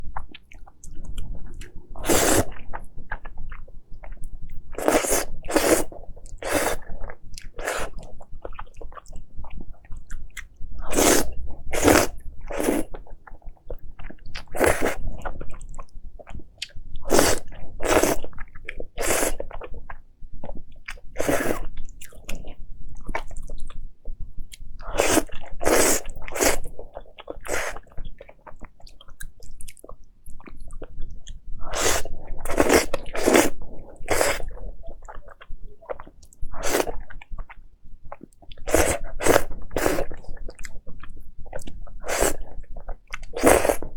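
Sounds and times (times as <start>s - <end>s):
chewing: 0.2s - 23.8s, 24.5s - 43.9s.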